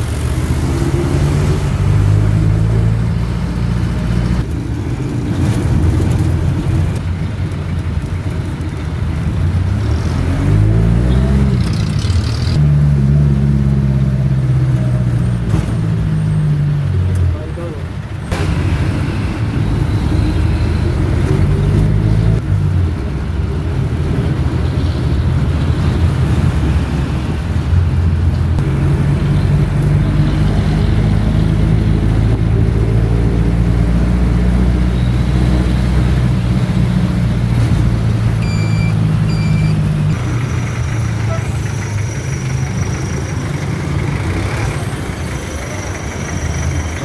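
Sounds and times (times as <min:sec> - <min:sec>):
road noise: 0:00.0 - 0:47.0
vehicle engine humming: 0:00.0 - 0:47.0.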